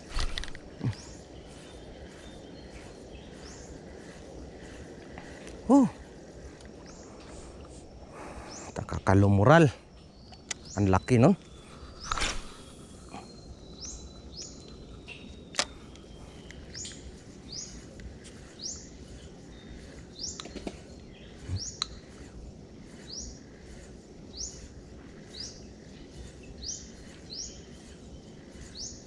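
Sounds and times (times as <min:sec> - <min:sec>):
background hiss: 0:00.0 - 0:29.0
bird chirping: 0:00.0 - 0:29.0.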